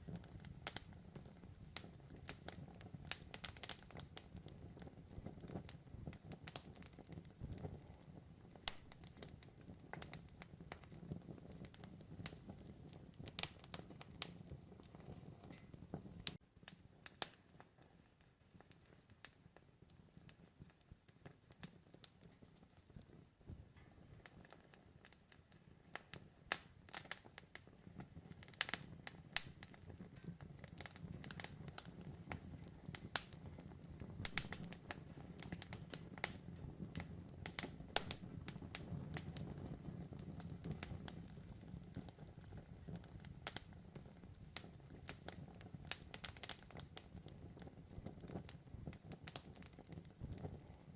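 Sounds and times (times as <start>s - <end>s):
campfire crackles and pops: 0.0s - 50.9s
low rumble of flame: 0.0s - 50.9s.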